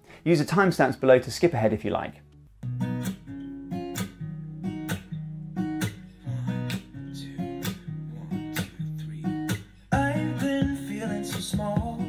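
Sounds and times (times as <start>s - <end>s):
acoustic guitar strumming: 1.9s - 12.0s.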